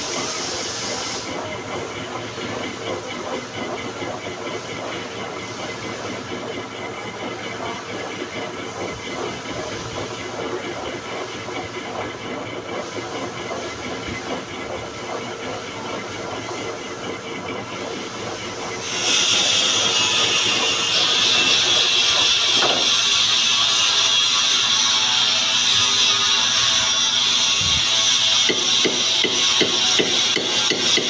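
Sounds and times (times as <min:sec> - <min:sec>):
metal lathe running: 0:00.0 - 0:31.0.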